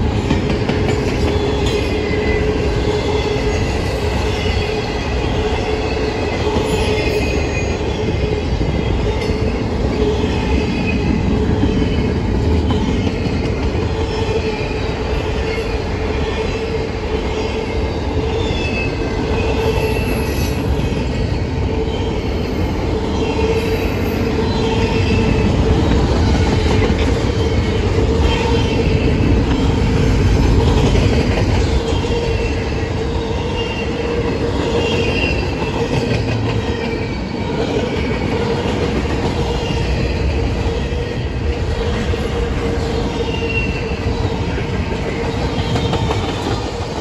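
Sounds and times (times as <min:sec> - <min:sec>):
train rumbling and rattling: 0:00.0 - 0:47.0.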